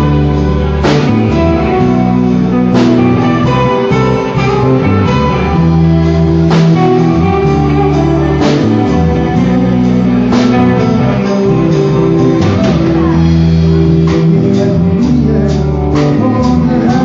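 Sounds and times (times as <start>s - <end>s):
band playing guitar-led instrumental: 0.0s - 17.0s.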